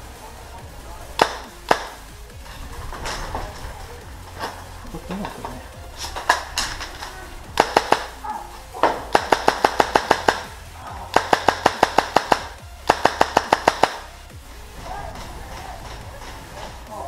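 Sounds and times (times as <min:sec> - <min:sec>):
airsoft rifle shots: 0:00.9 - 0:16.9.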